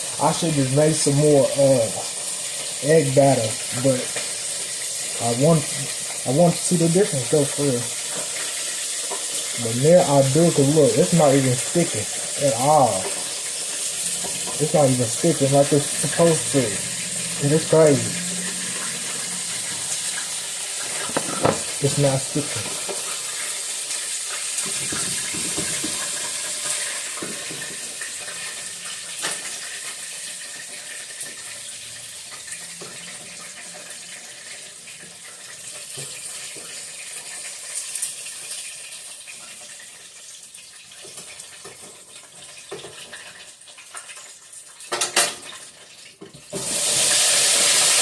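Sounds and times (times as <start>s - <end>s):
frying hiss: 0.0s - 48.0s.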